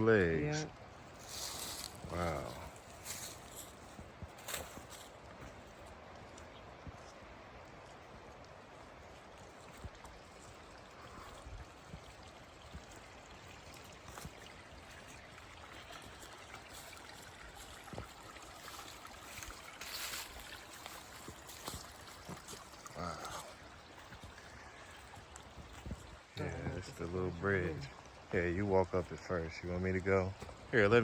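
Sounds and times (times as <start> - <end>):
mountain stream flowing: 0.0 - 31.0.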